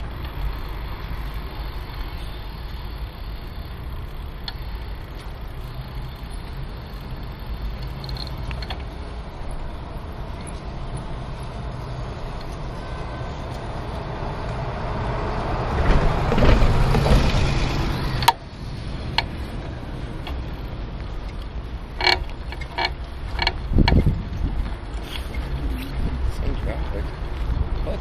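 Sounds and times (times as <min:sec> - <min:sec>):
bus engine running: 0:00.0 - 0:28.0.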